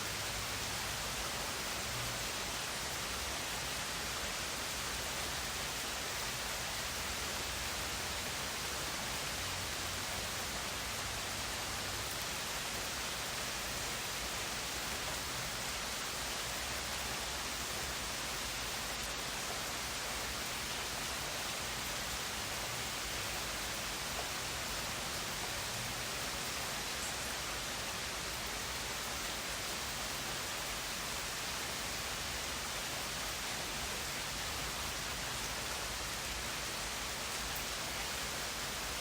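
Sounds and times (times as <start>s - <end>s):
steady rain hiss: 0.0s - 39.0s.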